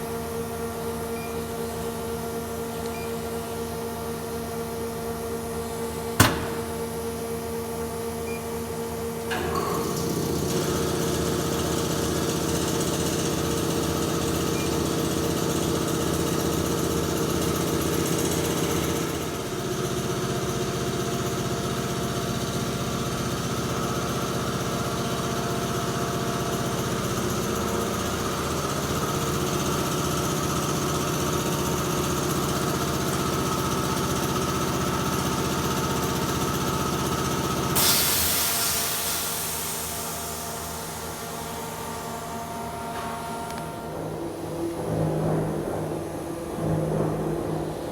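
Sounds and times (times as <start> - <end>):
machine hum with held tones: 0.0 - 37.8, 38.5 - 47.9.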